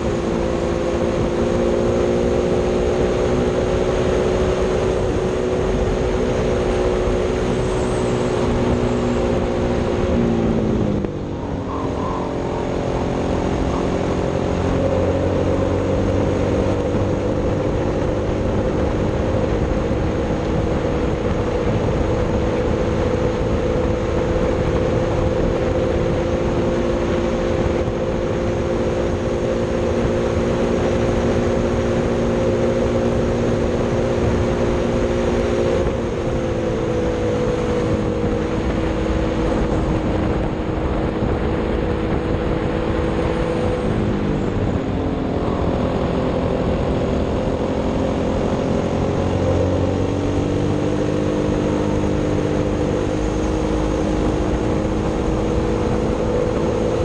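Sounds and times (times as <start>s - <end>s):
kart engine at high revs: 0.0s - 57.0s
wind and road rush: 0.0s - 57.0s.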